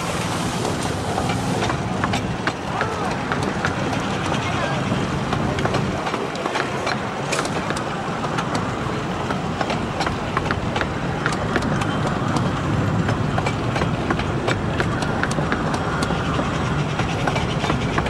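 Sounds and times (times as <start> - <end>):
train carriages rolling: 0.0 - 18.0
wheels clicking over rail joints: 0.0 - 18.0.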